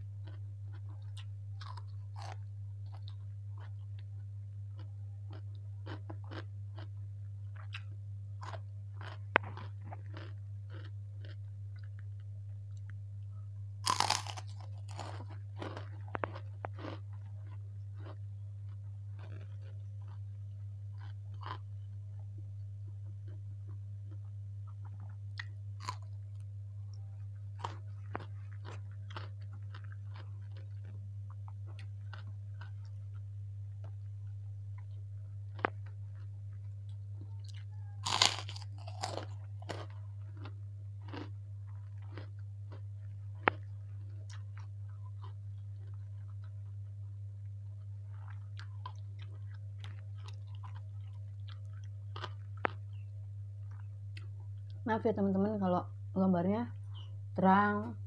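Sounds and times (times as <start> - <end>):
crunchy eating and chewing: 0.0 - 55.4
low electrical hum: 0.0 - 58.0.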